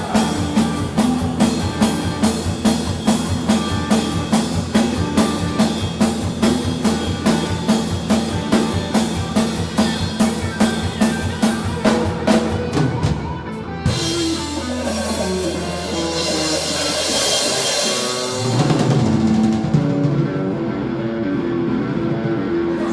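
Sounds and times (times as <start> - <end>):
drum kit beat: 0.0 - 20.8
rock band playing: 0.0 - 22.9.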